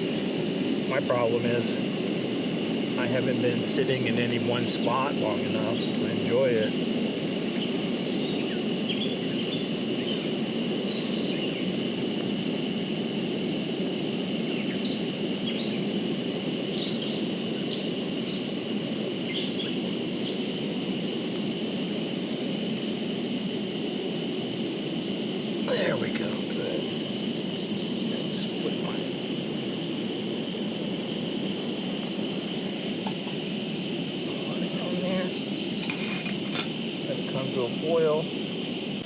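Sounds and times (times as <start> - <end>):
gas stove burner rushing: 0.0 - 39.0
insect trill: 0.0 - 39.0.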